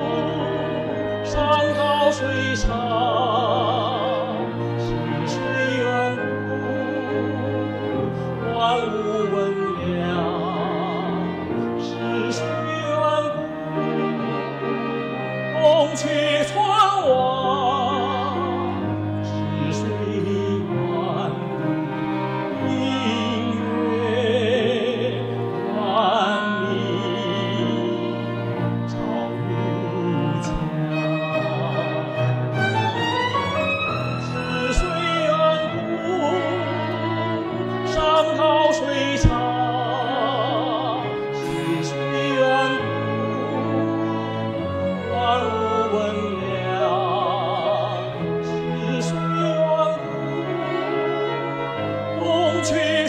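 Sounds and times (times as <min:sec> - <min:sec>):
cello: 0:00.0 - 0:53.0
clarinet: 0:00.0 - 0:53.0
piano: 0:00.0 - 0:53.0
violin: 0:00.0 - 0:53.0.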